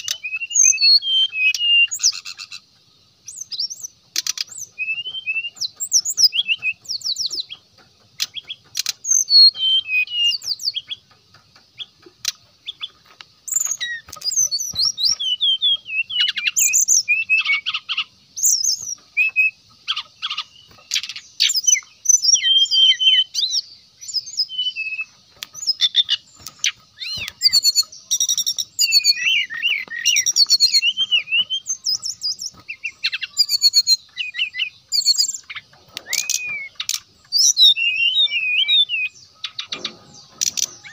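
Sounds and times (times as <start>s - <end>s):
bird singing chirps and trills: 0.0s - 40.9s
faint high hiss: 0.0s - 40.9s.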